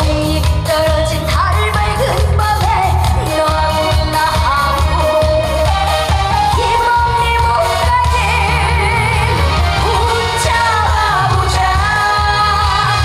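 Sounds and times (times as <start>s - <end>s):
band backing with bass beat: 0.0s - 13.0s
woman singing with vibrato: 0.0s - 13.0s.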